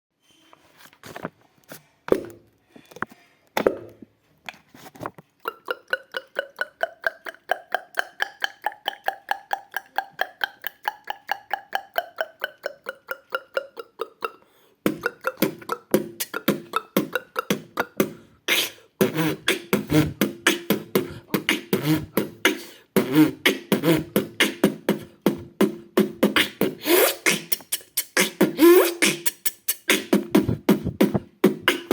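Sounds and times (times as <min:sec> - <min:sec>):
beatbox beat with low bass: 0:05.4 - 0:31.9
beatboxing mouth clicks: 0:05.4 - 0:31.9.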